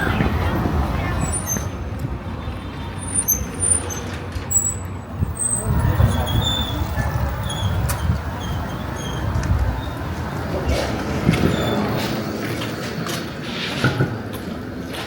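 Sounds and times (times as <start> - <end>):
low rumbling outdoor noise: 0.0 - 15.0.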